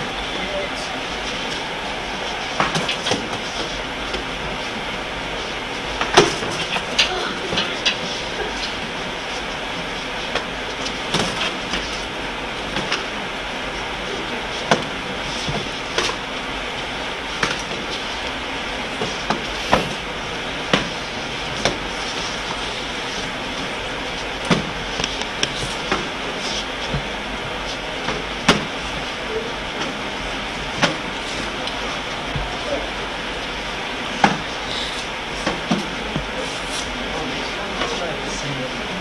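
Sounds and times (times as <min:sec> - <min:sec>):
steady background hiss: 0:00.0 - 0:39.0.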